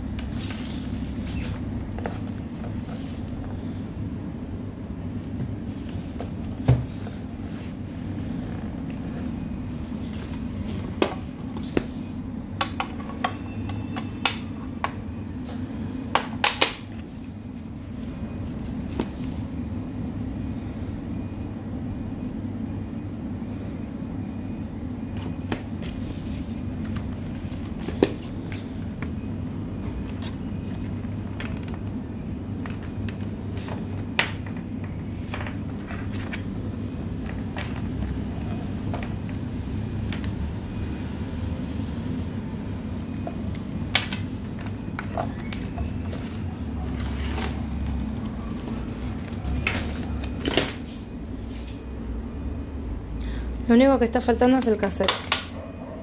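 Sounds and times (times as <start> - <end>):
steady low hum: 0.0 - 54.4.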